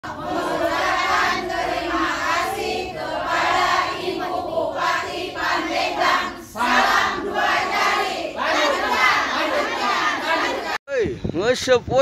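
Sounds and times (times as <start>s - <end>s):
crowd chanting: 0.0s - 10.8s.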